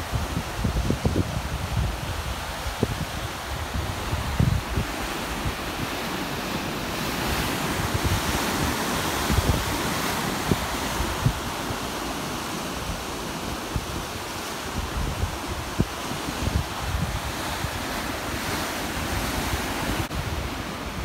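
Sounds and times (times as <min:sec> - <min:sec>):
surf breaking on rocks: 0:00.0 - 0:21.0
wind buffeting microphone: 0:00.0 - 0:21.0.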